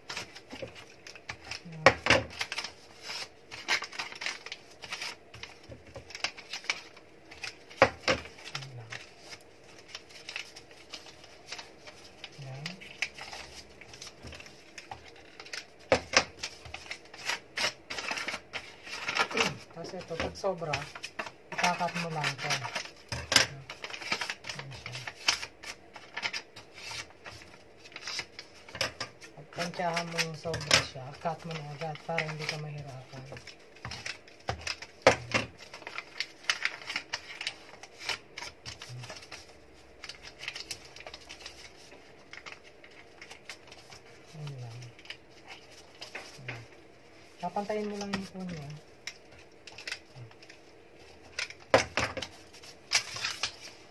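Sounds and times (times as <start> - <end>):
sharp paper crackles: 0.0 - 53.9
wrapping paper crinkling: 0.0 - 53.9.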